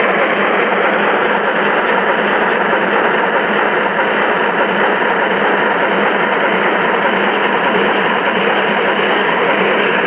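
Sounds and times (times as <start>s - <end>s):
steam locomotive running sound: 0.0s - 10.0s.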